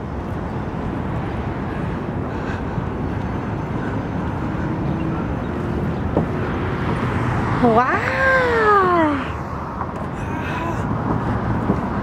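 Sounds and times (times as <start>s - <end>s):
city road traffic: 0.0s - 12.0s
wind rumbling on microphone: 0.0s - 12.0s.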